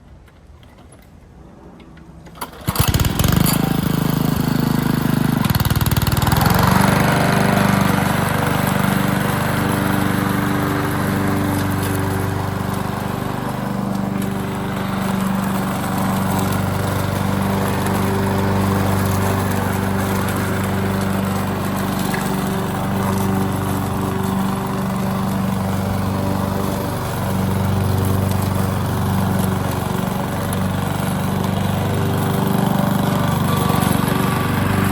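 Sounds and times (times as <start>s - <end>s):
lawn mower engine starting and running: 0.0s - 34.9s.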